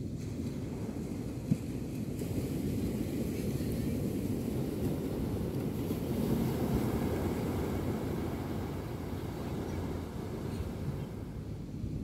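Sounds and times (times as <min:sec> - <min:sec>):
sea breeze: 0:00.0 - 0:12.0
surf rumbling: 0:00.0 - 0:12.0.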